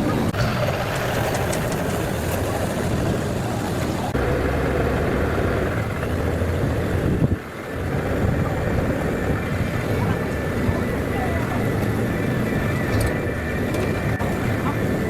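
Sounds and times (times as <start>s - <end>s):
large vehicle engine rumbling: 0.0s - 15.0s.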